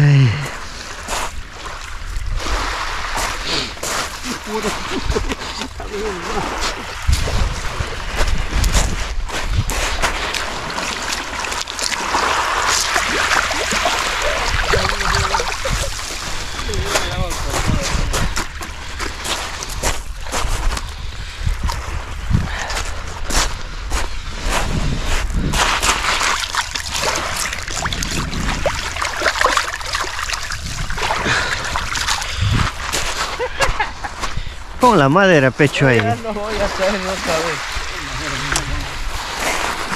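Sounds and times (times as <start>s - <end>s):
wind rumbling on microphone: 0.0s - 34.9s, 35.5s - 39.9s
waves washing onto pebble beach: 0.6s - 20.9s, 25.5s - 33.5s, 34.7s - 39.9s.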